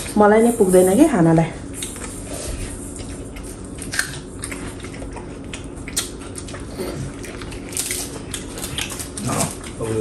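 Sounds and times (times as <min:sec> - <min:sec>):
steady low hum: 0:00.0 - 0:10.0
person chewing food: 0:01.6 - 0:10.0.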